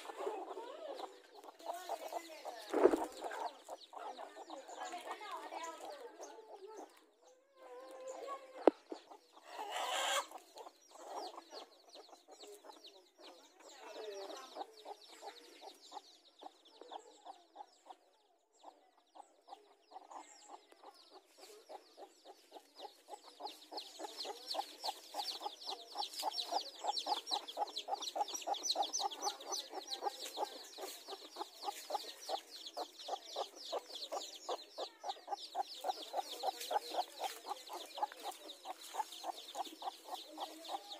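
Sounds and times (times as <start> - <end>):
hen clucking: 0.0 - 18.0, 18.6 - 40.9
chicks peeping: 0.0 - 40.9.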